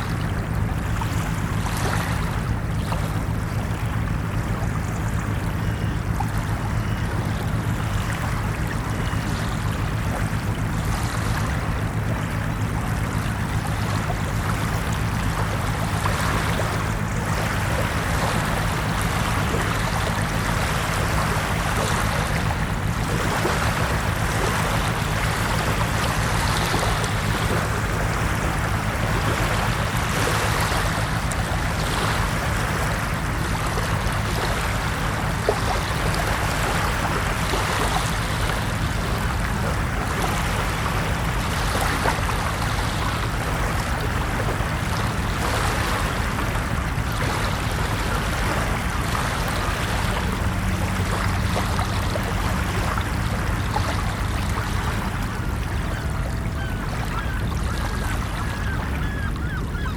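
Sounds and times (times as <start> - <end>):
low rumble: 0.0 - 59.9
ocean surf washing onto beach: 7.4 - 56.0.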